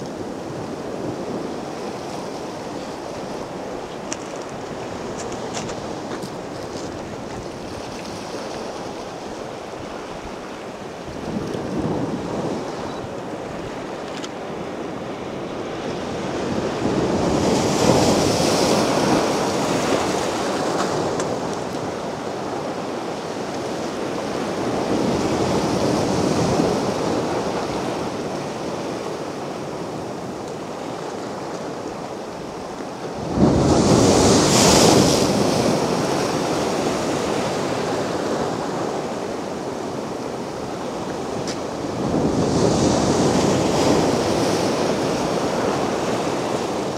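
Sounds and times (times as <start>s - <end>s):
sea waves breaking on beach: 0.0s - 46.9s.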